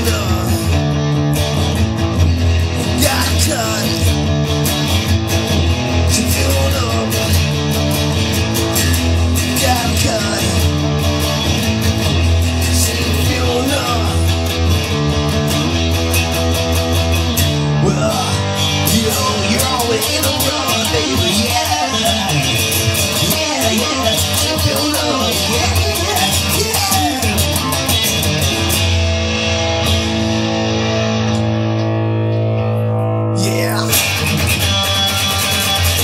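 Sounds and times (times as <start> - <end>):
bass line: 0.0 - 36.0
guitar music: 0.0 - 36.0.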